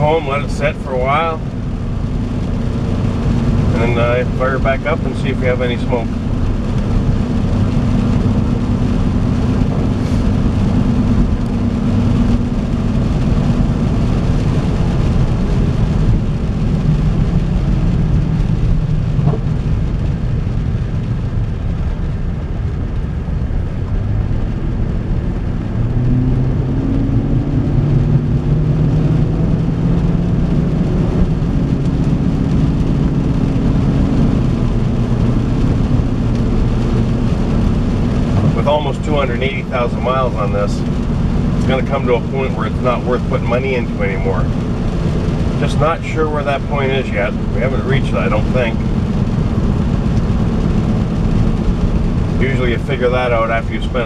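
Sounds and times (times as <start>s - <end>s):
car engine: 0.0s - 54.0s
road noise: 0.0s - 54.0s.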